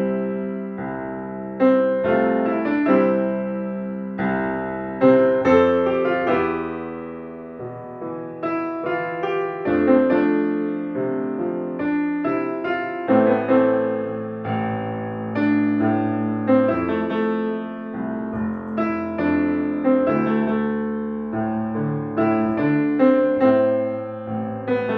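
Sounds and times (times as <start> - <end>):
piano music: 0.0 - 24.9.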